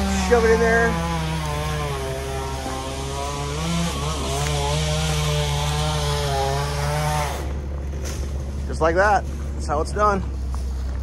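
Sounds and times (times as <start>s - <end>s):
wood chipper engine running: 0.0s - 11.0s.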